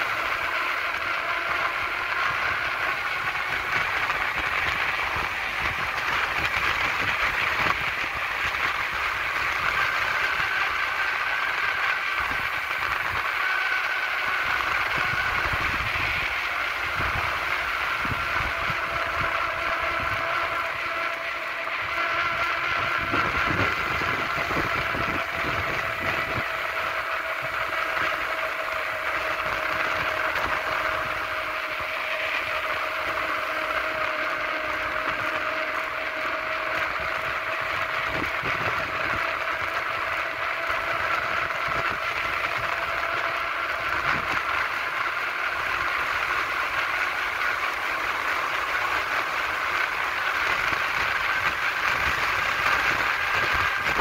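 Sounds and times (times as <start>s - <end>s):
wheels rolling on asphalt: 0.0s - 54.0s.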